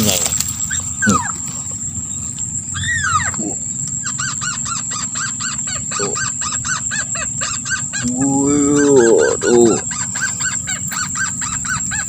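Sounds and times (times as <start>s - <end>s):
lower falling bird call: 0.0s - 12.0s
rapid rising and falling bird calls: 0.0s - 12.0s.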